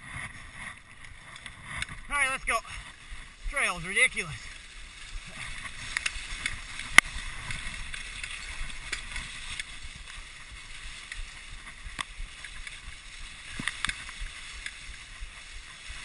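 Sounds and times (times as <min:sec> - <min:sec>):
sled clicks and knocks: 0:00.0 - 0:16.0
sled runners hissing on snow: 0:00.0 - 0:16.0.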